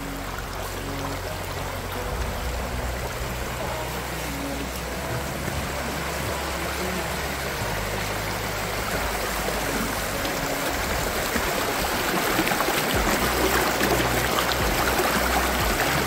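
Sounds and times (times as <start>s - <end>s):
stream splashing over stones: 0.0s - 16.0s.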